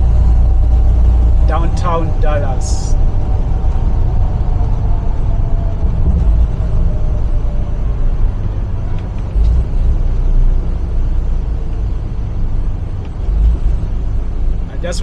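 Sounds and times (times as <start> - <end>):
diesel engine rumble: 0.0 - 15.0
road noise: 0.0 - 15.0.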